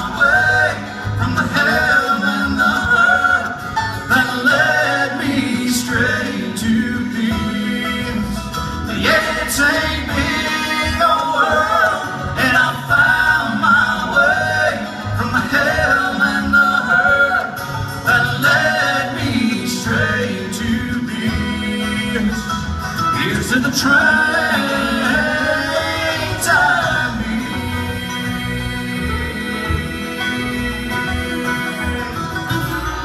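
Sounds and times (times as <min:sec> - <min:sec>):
bluegrass band playing: 0:00.0 - 0:33.0.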